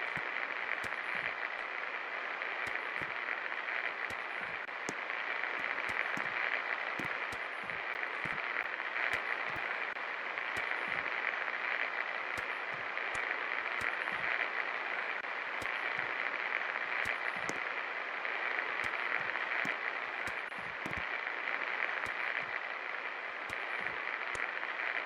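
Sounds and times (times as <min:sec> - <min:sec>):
ceiling fan whirring: 0:00.0 - 0:25.0
faint clicks: 0:00.0 - 0:25.0.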